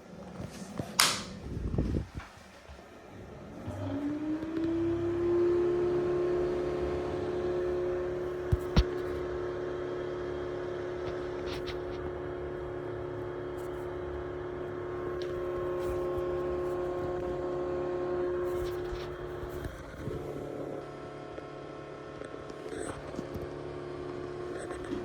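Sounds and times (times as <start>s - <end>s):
machine whining over low hum: 0.0s - 25.0s.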